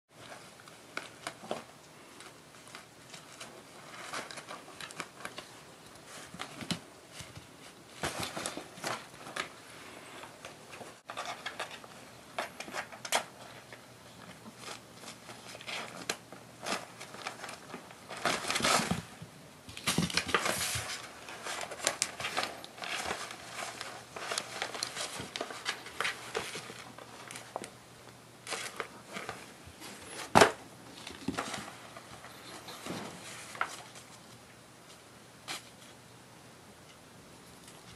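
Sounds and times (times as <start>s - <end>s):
paper envelope crinkling: 0.2s - 9.6s, 10.2s - 19.1s, 19.7s - 27.8s, 28.4s - 34.4s.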